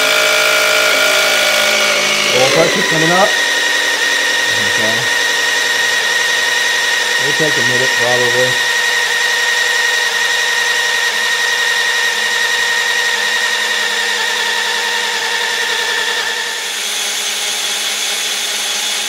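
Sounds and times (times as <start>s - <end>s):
cordless drill whine: 0.0s - 19.0s.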